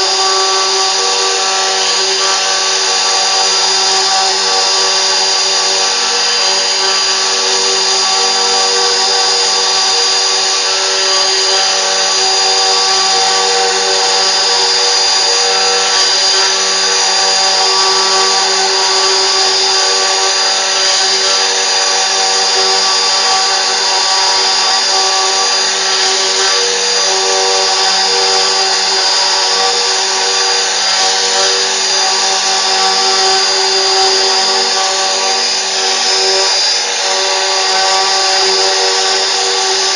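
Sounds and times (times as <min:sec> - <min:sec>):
machine spindle motor whining: 0:00.0 - 0:39.9.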